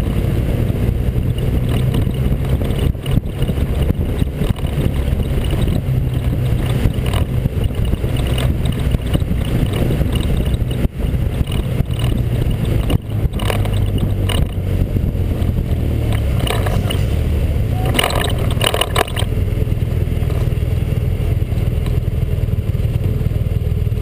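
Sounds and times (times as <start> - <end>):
low engine drone: 0.0 - 24.0
road noise: 0.0 - 24.0
wind noise: 0.0 - 24.0.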